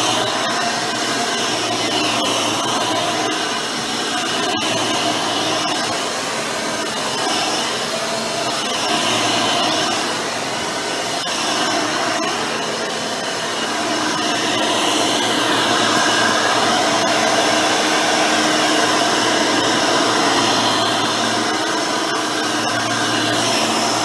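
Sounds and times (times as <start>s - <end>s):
vacuum cleaner motor whine: 0.0s - 24.0s.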